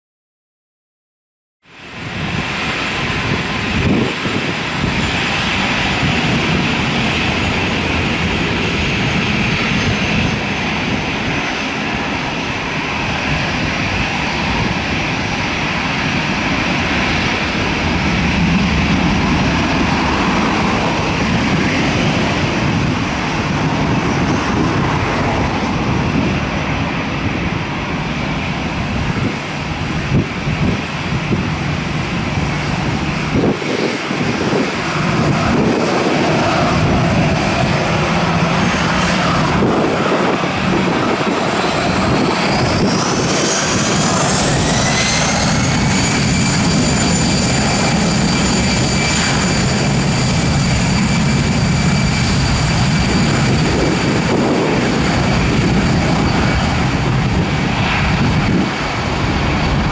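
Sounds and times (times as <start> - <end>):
jet engines running: 1.6 - 59.9.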